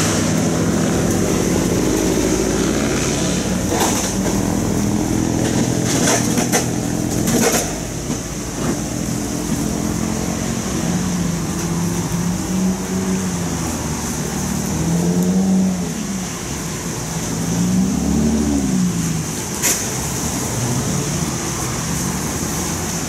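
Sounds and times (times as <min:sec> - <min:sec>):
car approaching: 0:00.0 - 0:23.0
car pulling away: 0:00.0 - 0:23.0
cars driving past: 0:00.0 - 0:23.0.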